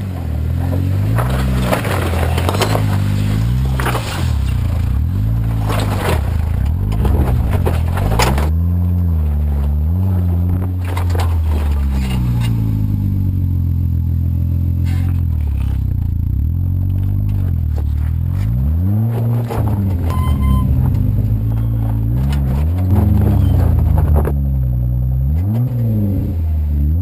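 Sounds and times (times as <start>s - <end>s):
tyres crunching and scraping on rock: 0.0s - 12.8s, 14.8s - 16.0s, 16.8s - 24.4s
engine revving: 0.0s - 27.0s.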